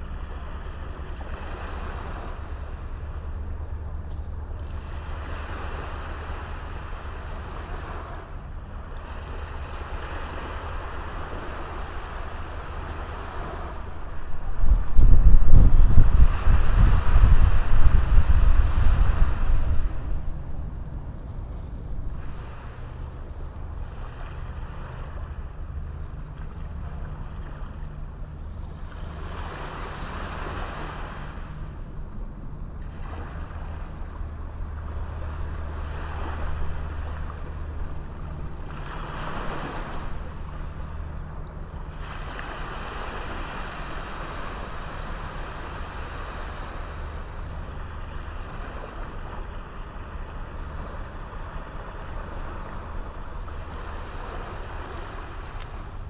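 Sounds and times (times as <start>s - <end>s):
steady low rumble: 0.0s - 56.0s
waves washing onto beach: 0.0s - 56.0s.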